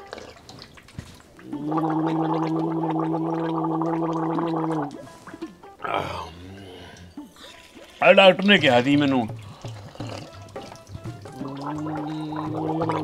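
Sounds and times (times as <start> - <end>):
person gargling: 1.4 - 5.1, 5.8 - 13.0.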